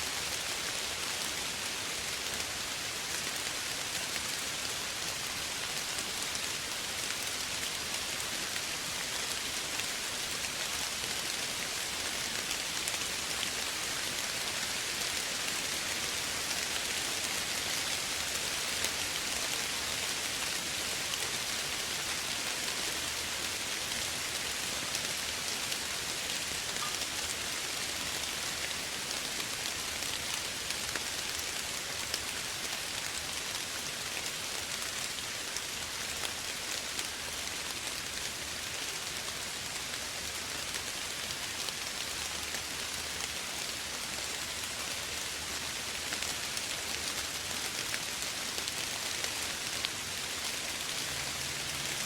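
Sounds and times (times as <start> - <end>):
soft rain falling: 0.0 - 52.0.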